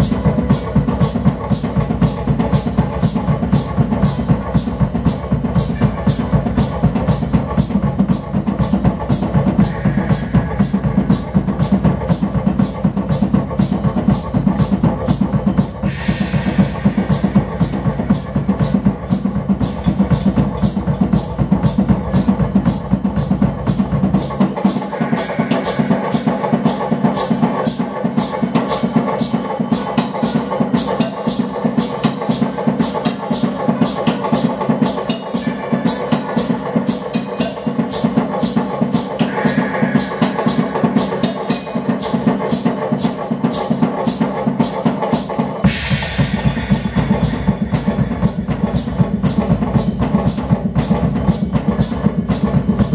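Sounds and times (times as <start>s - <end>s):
music with drums: 0.0s - 52.9s.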